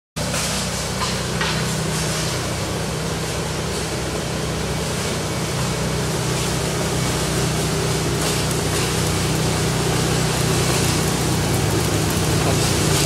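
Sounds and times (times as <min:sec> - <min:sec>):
engine hum: 0:00.2 - 0:13.0
flail mower cutting undergrowth: 0:00.2 - 0:13.0.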